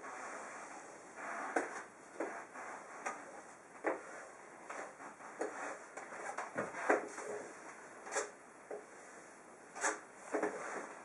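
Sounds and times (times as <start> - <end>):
squeegee scraping across fabric: 0.0 - 11.0.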